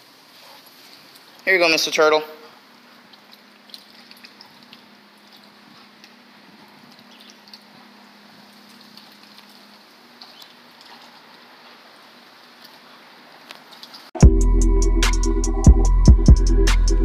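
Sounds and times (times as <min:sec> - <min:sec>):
faint splashing on water: 0:00.2 - 0:14.1.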